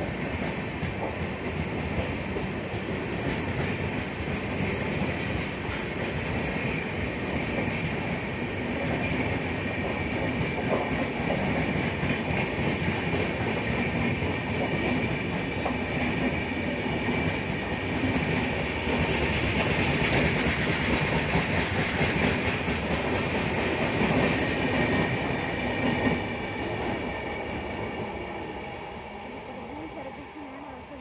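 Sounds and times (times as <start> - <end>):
train wheels clattering on rails: 0.0 - 28.8.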